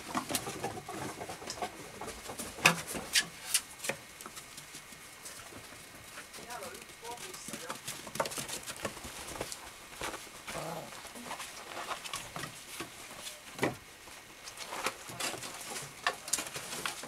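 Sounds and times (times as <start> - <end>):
paws scraping on wooden boards: 0.0 - 13.8.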